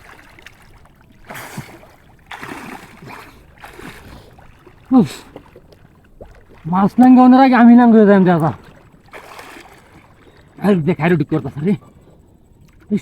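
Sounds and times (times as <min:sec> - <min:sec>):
water splashing in a stream: 0:00.0 - 0:10.5.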